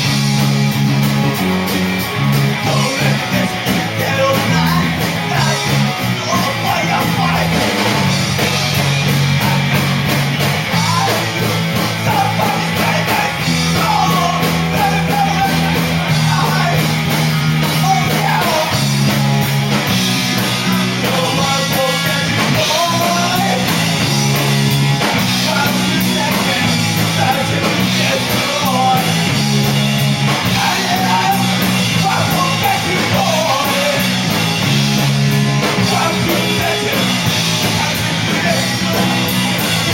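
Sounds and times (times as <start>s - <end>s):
bass line: 0.0s - 39.9s
drum beat with cymbals: 0.0s - 39.9s
rock band playing live: 0.0s - 39.9s
person singing: 2.5s - 10.0s, 10.6s - 19.1s, 20.4s - 39.9s.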